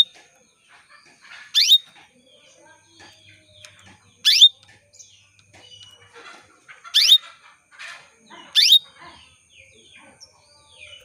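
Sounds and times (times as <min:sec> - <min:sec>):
faint bird chirps: 0:00.0 - 0:07.5, 0:08.3 - 0:11.0.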